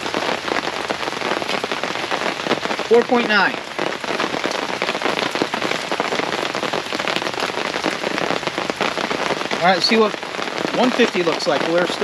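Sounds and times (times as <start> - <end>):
heavy rain on fabric canopy: 0.0 - 12.0.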